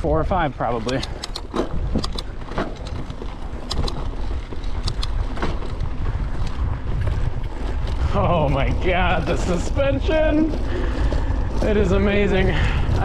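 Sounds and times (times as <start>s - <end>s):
bike tyres rumbling on dirt: 0.0s - 13.0s
wind buffeting microphone: 0.0s - 13.0s
bike clicks and rattles: 0.1s - 13.0s.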